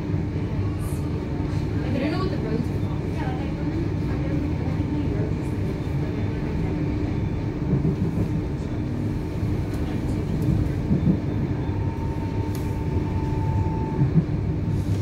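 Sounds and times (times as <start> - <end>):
train cabin rumble and hum: 0.0 - 15.0.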